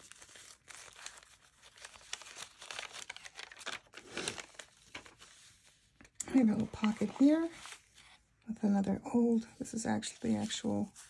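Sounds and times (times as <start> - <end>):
paper pages rustling: 0.0 - 8.2, 10.0 - 11.0.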